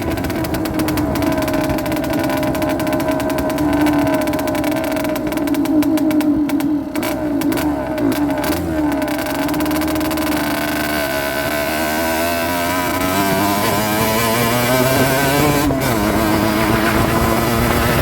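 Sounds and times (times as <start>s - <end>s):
two-stroke motorcycle engine running: 0.0s - 18.0s.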